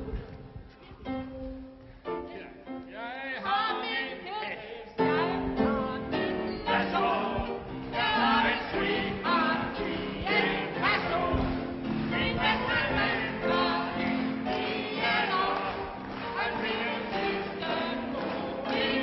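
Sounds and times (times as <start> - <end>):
several voices singing: 3.0 - 19.0.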